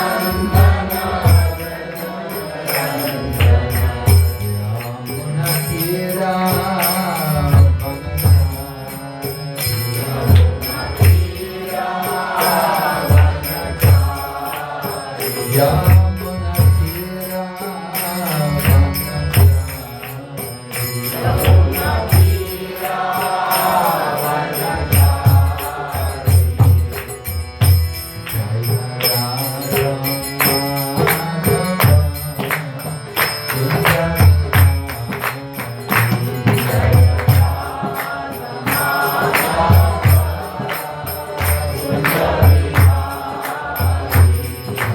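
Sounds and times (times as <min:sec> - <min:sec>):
devotional chant singing: 0:00.0 - 0:44.9.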